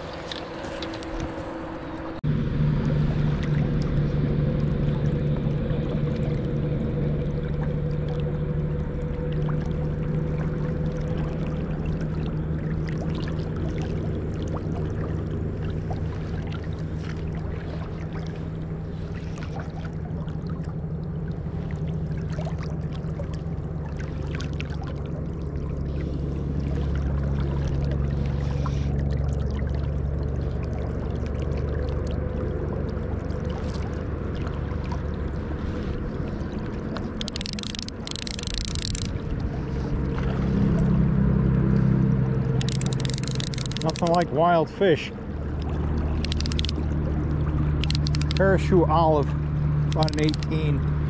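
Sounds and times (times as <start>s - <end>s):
river rushing and gurgling: 0.0s - 51.0s
small water splashes: 0.0s - 51.0s.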